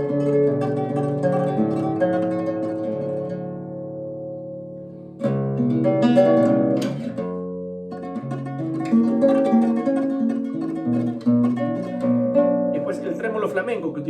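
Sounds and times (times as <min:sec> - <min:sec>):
nylon-string guitar fingerstyle: 0:00.0 - 0:14.0.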